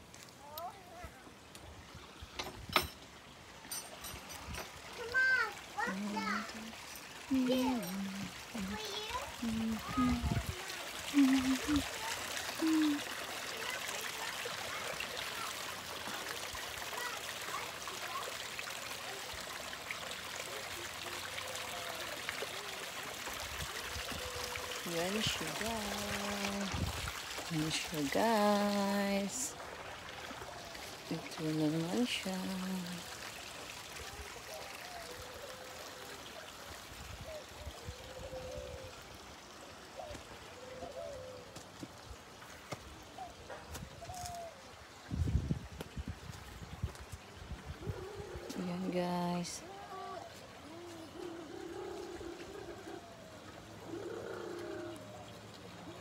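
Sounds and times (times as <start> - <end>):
outdoor background hiss: 0.0 - 56.0.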